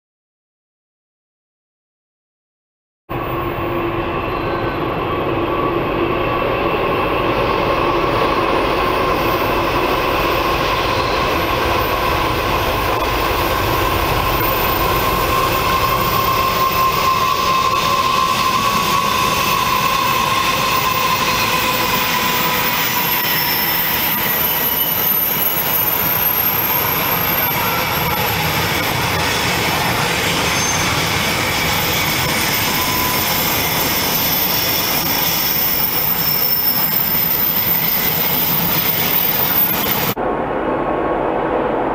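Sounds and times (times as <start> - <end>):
high wheel squeal: 3.1 - 40.2
diesel locomotive engines running: 3.1 - 41.9.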